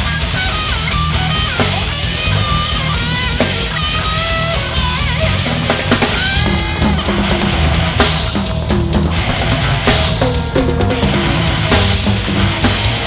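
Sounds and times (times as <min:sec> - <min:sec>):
guitar lines bending in pitch: 0:00.0 - 0:13.0
heavy metal band playing live: 0:00.0 - 0:13.0.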